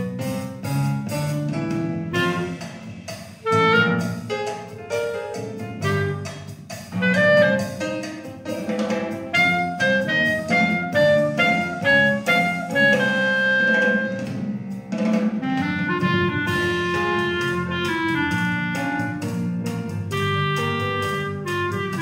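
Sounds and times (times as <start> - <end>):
lower accompaniment: 0.0 - 22.0
clarinet melody: 2.1 - 8.3, 9.3 - 14.5, 15.2 - 22.0.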